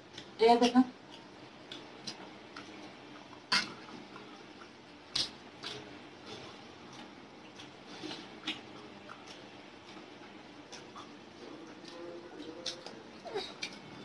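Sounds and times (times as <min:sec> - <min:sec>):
wet chewing and squishing: 0:01.0 - 0:14.0.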